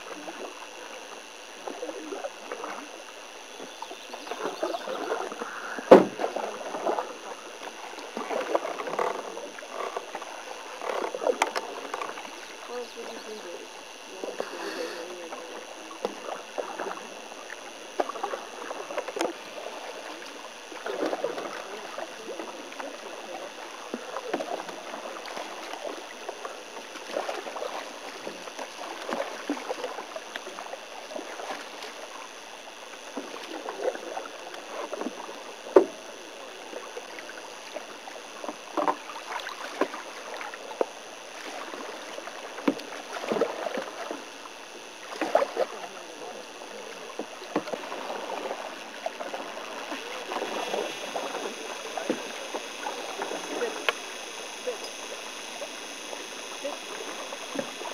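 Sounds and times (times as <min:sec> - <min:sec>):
paddles splashing in water: 0:00.0 - 0:57.9.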